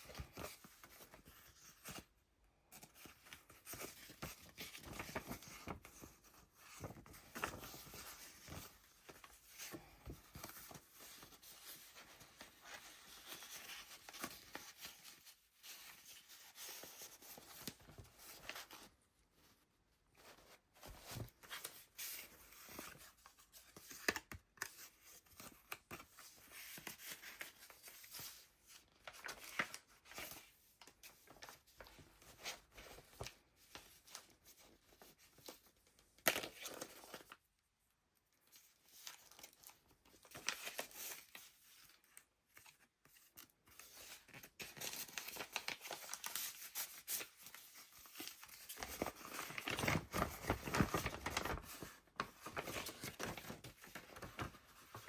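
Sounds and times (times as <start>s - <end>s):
paper pages rustling and crinkling: 0.0s - 37.5s, 38.4s - 55.0s.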